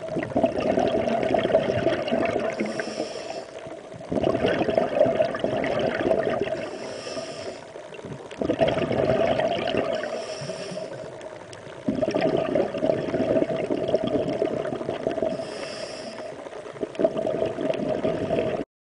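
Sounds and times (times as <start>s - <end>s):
water sloshing underwater: 0.0s - 18.6s.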